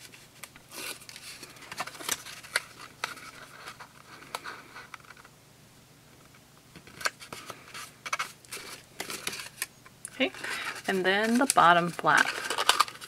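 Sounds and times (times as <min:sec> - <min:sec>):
paper rustling: 0:00.0 - 0:05.2, 0:06.8 - 0:13.0.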